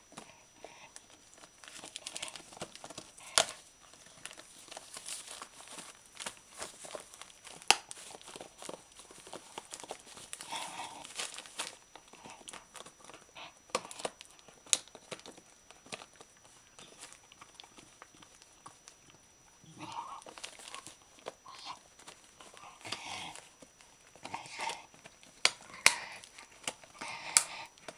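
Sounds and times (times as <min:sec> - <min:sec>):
dog tearing wrapping paper: 0:01.4 - 0:18.5, 0:19.8 - 0:27.9.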